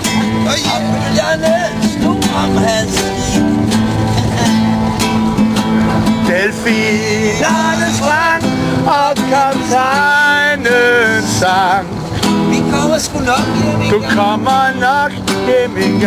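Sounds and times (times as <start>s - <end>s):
man singing: 0.0s - 4.6s, 6.2s - 16.0s
acoustic guitar strummed: 0.0s - 16.0s.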